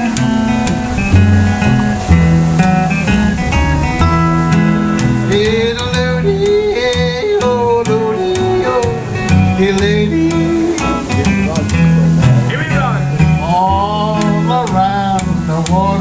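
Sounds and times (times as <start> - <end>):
wavering melody line: 0.0 - 14.7
acoustic guitar picked and strummed: 0.0 - 16.0
upright double bass walking: 0.0 - 16.0.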